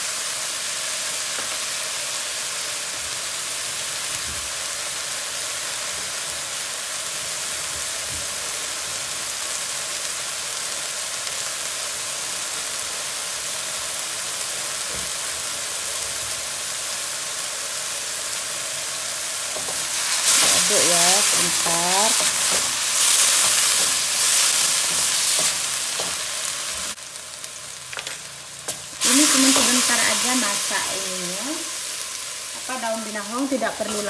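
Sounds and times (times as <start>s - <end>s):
leaves sizzling in a wok: 0.0s - 34.0s.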